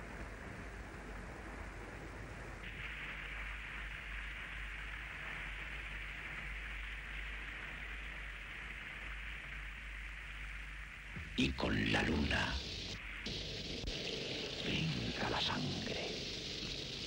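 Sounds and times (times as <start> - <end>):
low hum: 0.0 - 17.0
steady hiss: 0.0 - 17.0.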